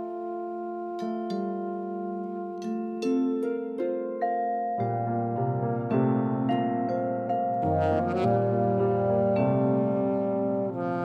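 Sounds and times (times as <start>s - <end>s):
chamber music: 0.0s - 11.0s.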